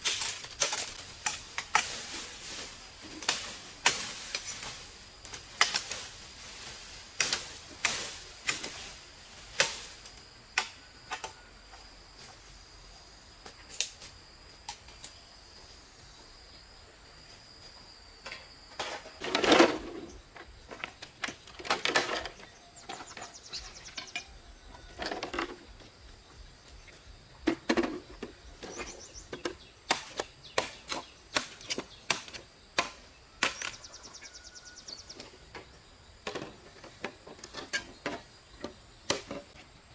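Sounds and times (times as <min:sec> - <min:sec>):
high insect whine: 0:00.0 - 0:39.9.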